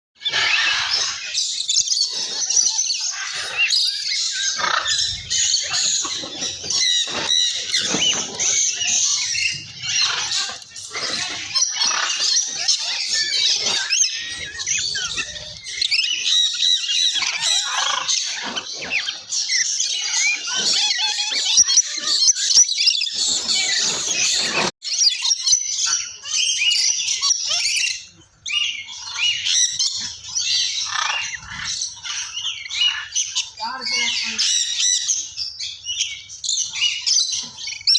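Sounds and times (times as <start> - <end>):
parrots chattering and squawking: 0.2 - 37.9.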